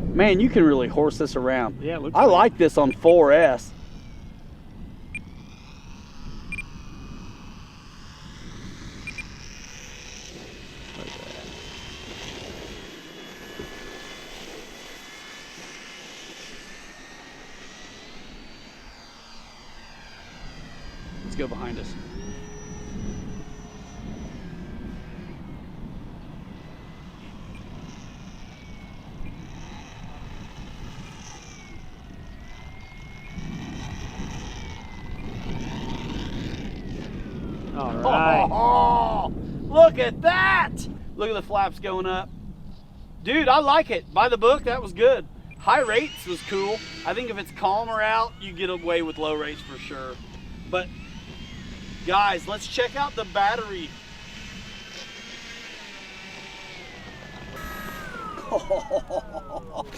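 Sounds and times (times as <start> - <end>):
model plane electric motor whining: 0.0 - 59.9
wind rumbling on microphone: 0.0 - 59.9.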